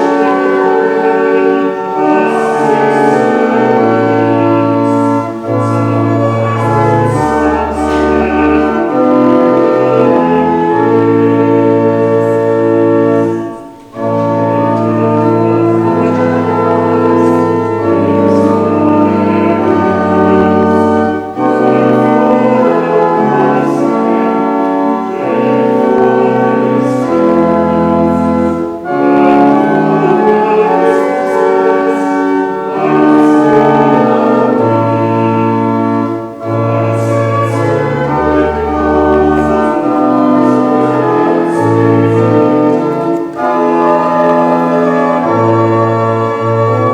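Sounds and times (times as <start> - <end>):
church organ playing hymn: 0.0 - 46.9.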